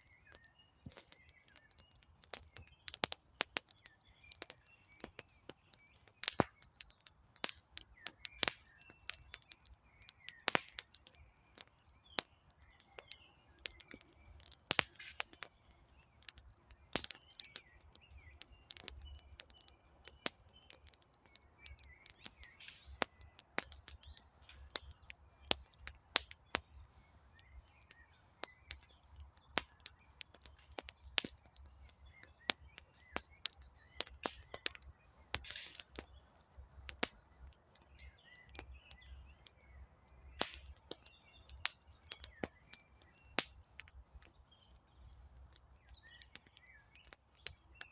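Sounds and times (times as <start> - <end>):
campfire crackling and popping: 0.0 - 47.9
faint birds chirping: 0.0 - 47.9.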